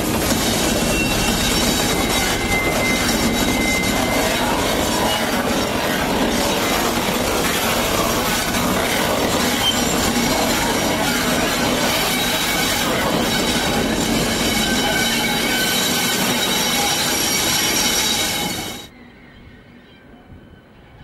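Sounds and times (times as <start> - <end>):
locomotive running gear rumble: 0.0 - 18.9
train wheels squealing: 0.0 - 21.0.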